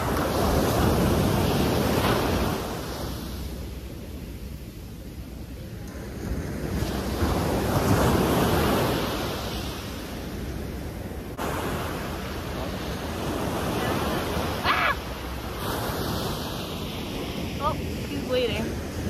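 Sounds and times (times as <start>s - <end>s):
surf washing onto beach: 0.0s - 19.0s.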